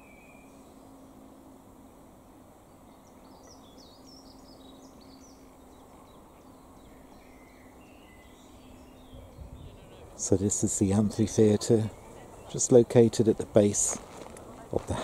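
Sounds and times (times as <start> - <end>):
songbird chirping: 0.0 - 1.2, 2.5 - 15.0
faint low hum: 0.0 - 15.0
outdoor background noise: 0.0 - 15.0.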